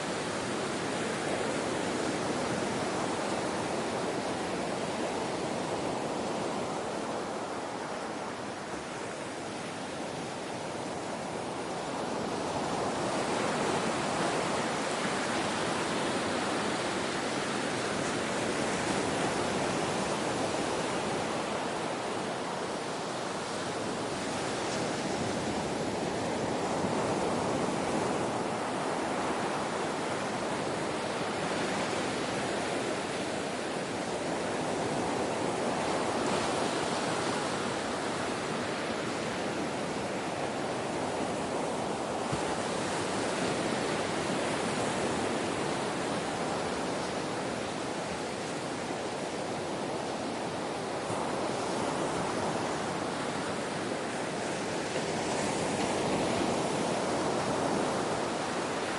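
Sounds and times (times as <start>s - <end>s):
ocean waves washing on shore: 0.0s - 58.9s.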